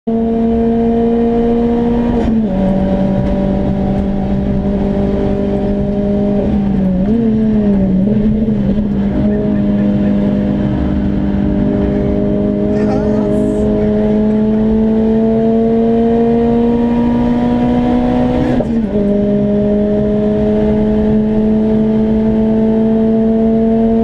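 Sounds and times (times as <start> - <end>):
car engine running: 0.1 - 22.1
road and tyre noise: 0.1 - 24.0.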